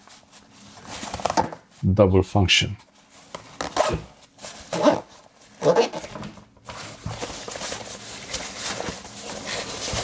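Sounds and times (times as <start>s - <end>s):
faint steady rustling: 0.0s - 1.9s, 2.6s - 5.7s, 6.5s - 10.0s.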